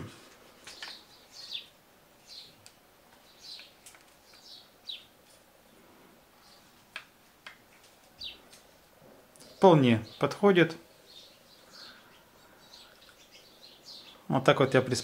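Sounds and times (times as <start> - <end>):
bird chirping: 0.0 - 5.8, 6.4 - 6.8, 8.1 - 15.0.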